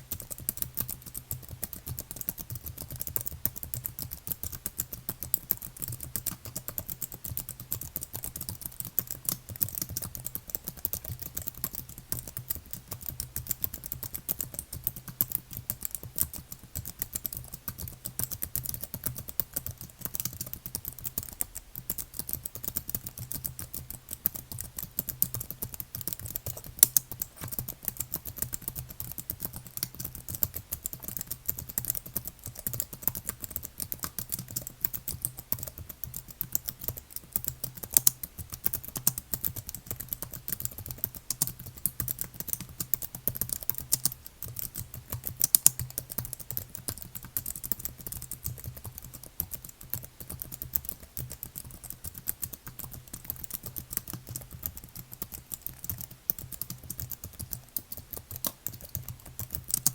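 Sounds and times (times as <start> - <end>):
typing on computer keyboard: 0.0 - 59.9.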